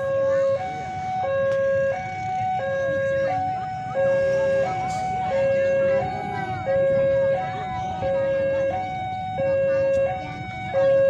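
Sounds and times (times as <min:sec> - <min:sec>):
level crossing two-tone alarm: 0:00.0 - 0:11.0.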